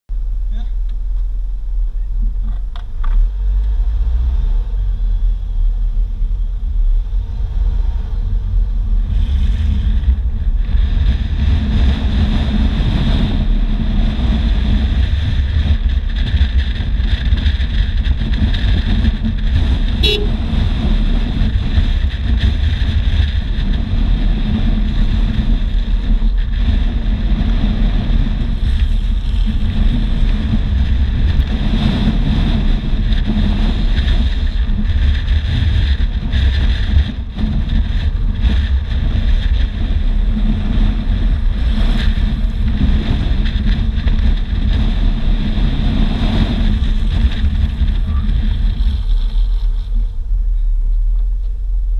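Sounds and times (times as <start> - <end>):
low road rumble: 0.0 - 51.9
wind rushing over microphone: 0.1 - 51.9.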